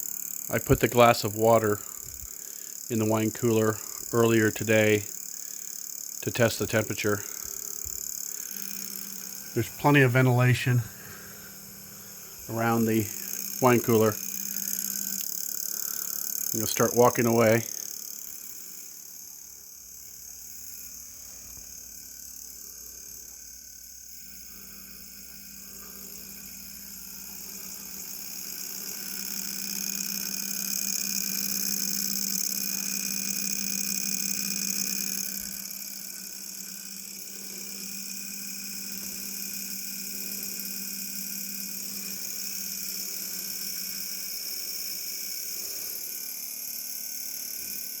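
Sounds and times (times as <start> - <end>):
wine cooler humming and hissing: 0.0 - 48.0.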